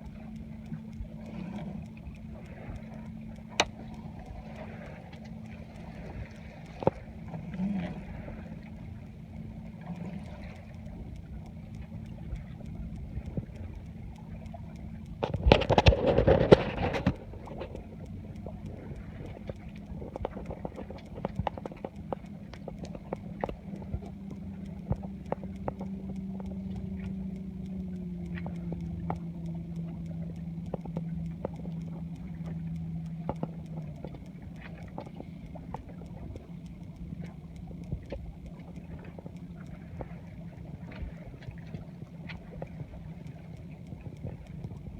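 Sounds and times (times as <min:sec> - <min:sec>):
motor hum: 0:00.0 - 0:44.9
water splashing against hull: 0:00.0 - 0:44.9.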